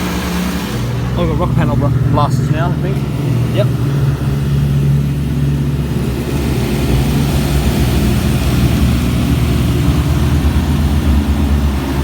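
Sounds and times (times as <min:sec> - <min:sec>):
low rumble of machinery: 0:00.0 - 0:12.0.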